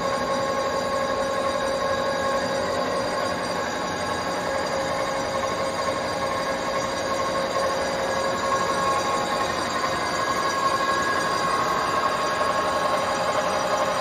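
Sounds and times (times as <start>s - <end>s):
lathe running with mechanical whine: 0.0s - 14.0s.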